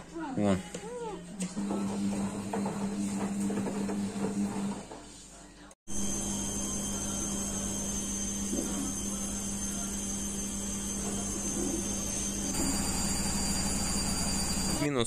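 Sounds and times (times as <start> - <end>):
washing machine running: 1.5 - 5.1, 5.9 - 15.0.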